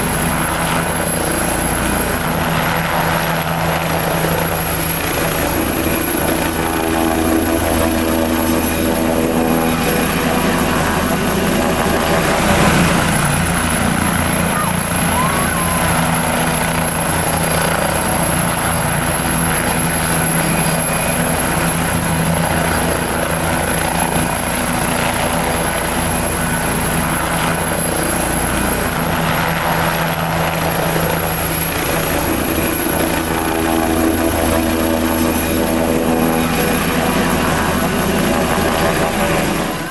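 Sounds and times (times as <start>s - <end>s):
helicopter engine drone: 0.0s - 39.9s
helicopter rotor chop: 0.0s - 39.9s.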